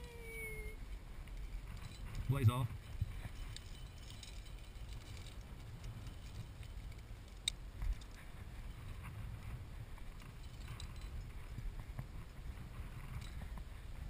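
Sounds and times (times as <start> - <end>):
rope and carabiners clicking: 0.0 - 14.0
wind rumbling on microphone: 0.0 - 14.0.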